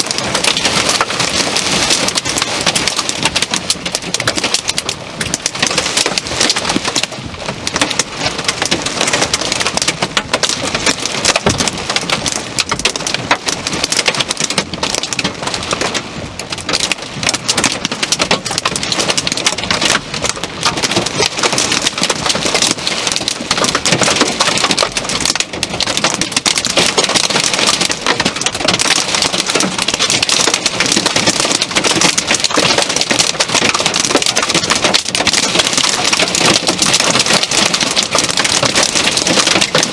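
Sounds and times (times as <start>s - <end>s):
heavy rain pouring down: 0.0s - 39.9s.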